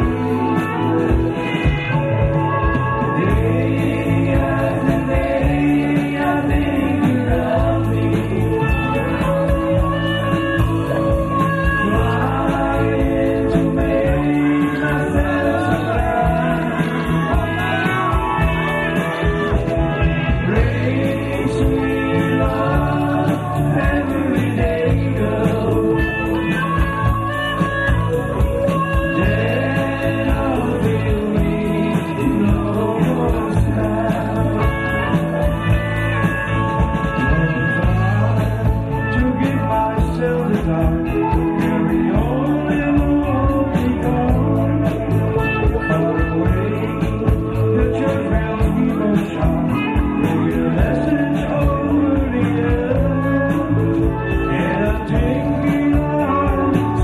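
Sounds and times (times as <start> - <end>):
live band playing: 0.0 - 57.0
man singing into microphone: 3.0 - 57.0.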